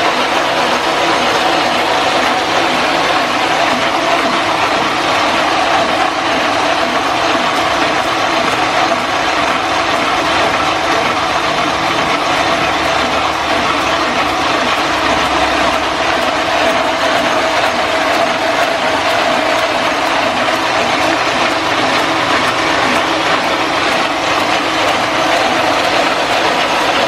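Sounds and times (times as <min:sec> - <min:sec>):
printing press clattering: 0:00.0 - 0:27.0.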